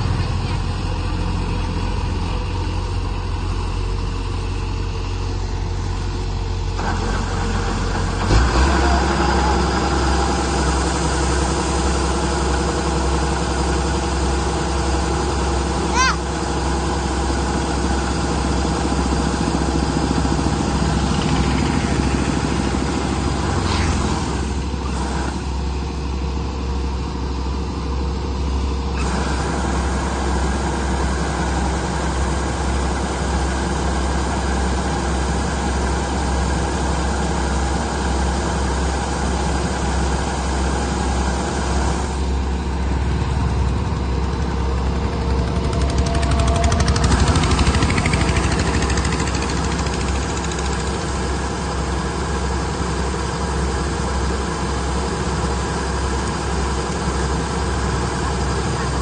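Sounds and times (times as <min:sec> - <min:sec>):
heavy machine engine humming: 0:00.0 - 0:59.0.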